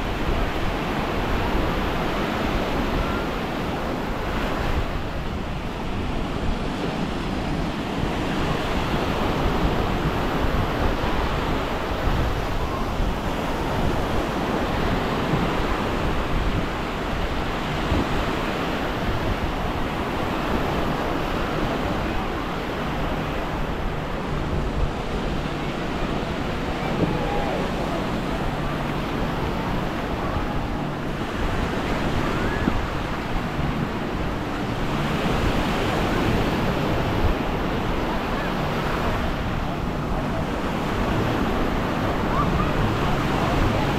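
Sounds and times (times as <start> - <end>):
small waves washing onto beach: 0.0 - 43.9
wind buffeting microphone: 0.0 - 43.9.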